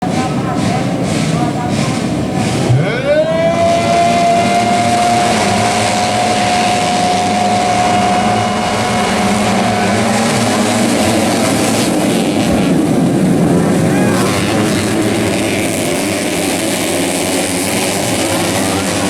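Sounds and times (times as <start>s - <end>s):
dirt bike engine revving: 0.0s - 19.0s
noisy background: 0.0s - 19.0s.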